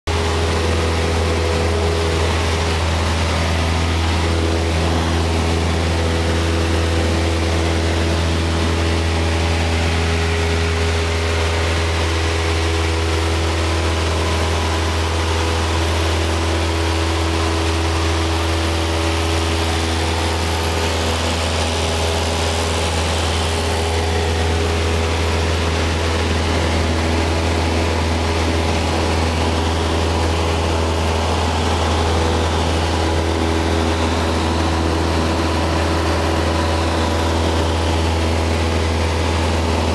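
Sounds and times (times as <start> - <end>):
airplane engine drone in cabin: 0.1 - 39.9.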